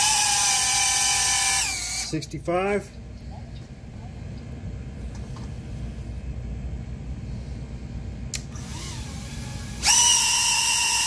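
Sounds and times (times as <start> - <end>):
low background rumble: 1.6 - 10.7.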